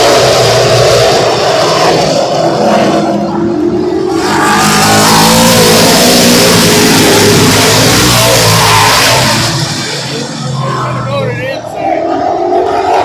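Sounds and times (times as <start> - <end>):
race car engines at full throttle: 0.0 - 13.0.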